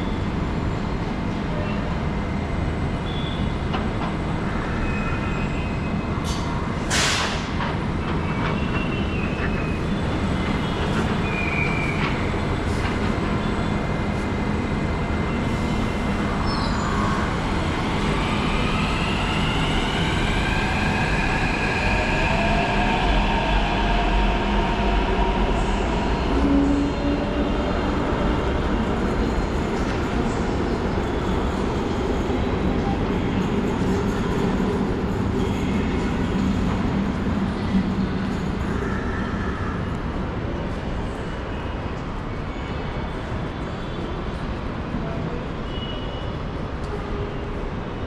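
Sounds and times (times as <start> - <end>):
electric train rumbling: 0.0 - 48.0.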